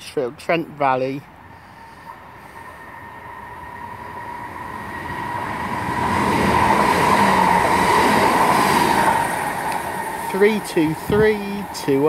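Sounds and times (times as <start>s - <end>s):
train rail and wheel noise: 0.9s - 12.0s
high whine of train: 1.0s - 12.0s.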